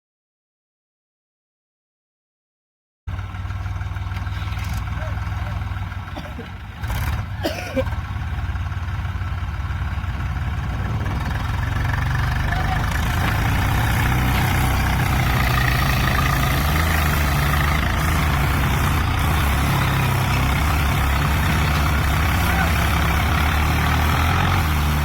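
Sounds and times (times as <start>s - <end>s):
tractor engine running: 3.1s - 25.0s.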